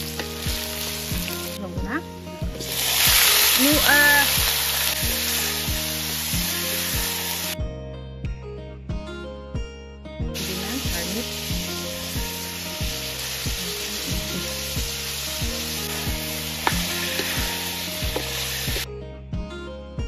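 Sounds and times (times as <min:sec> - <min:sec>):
meat sizzling in a wok: 0:00.0 - 0:07.6, 0:10.4 - 0:18.9
background music with steady beat: 0:00.0 - 0:20.0.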